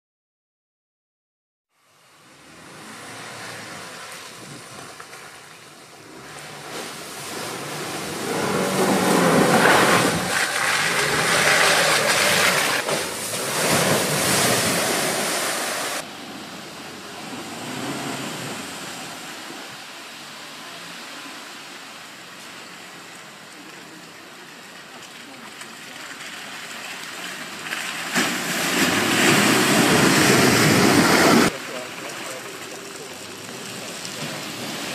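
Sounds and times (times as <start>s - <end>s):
vehicle engine and tyres churning: 1.7s - 34.9s
spray of mud and water: 2.5s - 34.9s.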